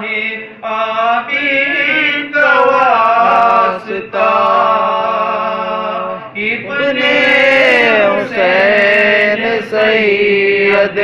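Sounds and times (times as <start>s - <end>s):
person chanting unaccompanied: 0.0s - 11.0s.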